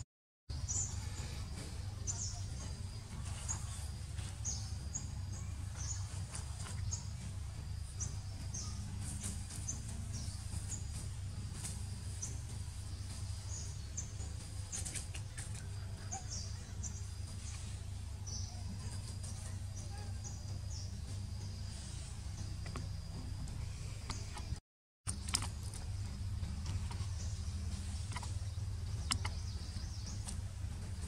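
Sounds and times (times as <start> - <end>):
low outdoor rumble: 0.0 - 31.0
small birds chirping: 0.5 - 31.0.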